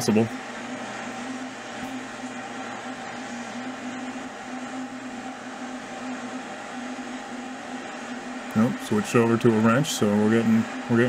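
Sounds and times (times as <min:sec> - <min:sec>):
metal lathe motor hum: 0:00.0 - 0:11.0.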